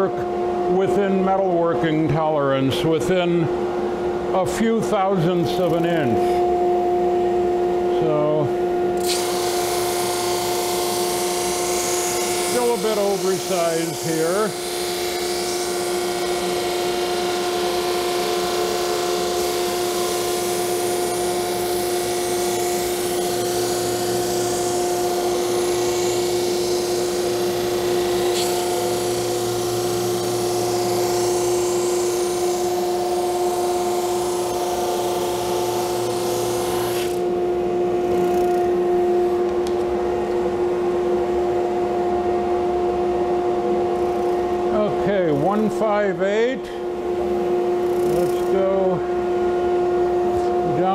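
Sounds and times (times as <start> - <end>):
drum sander humming: 0.0 - 50.9.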